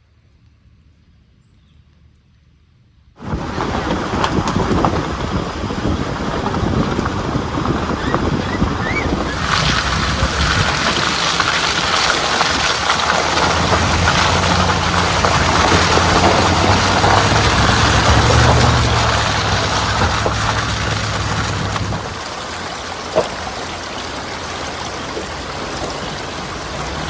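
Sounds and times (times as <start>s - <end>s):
rushing noise: 3.2s - 27.0s
vehicle engine droning: 3.2s - 27.0s.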